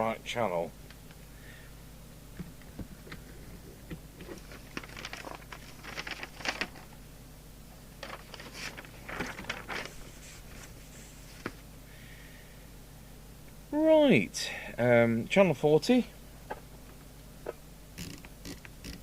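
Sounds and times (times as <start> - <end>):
low mains hum: 0.0 - 19.0.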